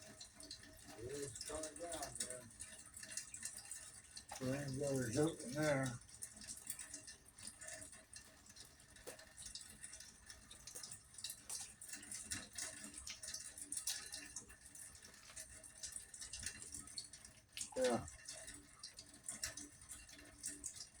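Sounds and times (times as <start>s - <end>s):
rain drips and patter: 0.0s - 21.0s
water running from gutter: 0.0s - 21.0s.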